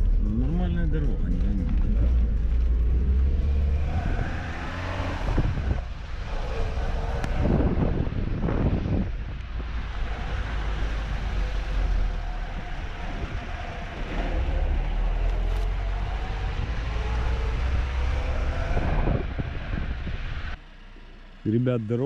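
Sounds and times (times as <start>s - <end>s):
engine and road rumble: 0.0s - 22.0s.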